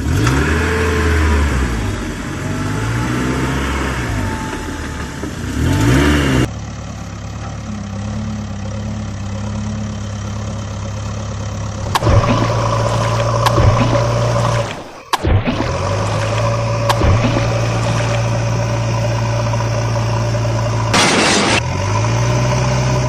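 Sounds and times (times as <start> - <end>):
engine idling: 1.5 - 23.0.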